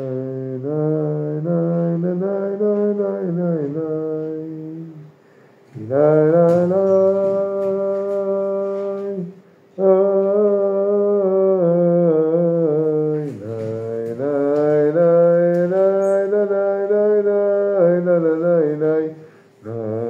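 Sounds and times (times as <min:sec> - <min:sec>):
man singing wordless melody: 0:00.0 - 0:20.0.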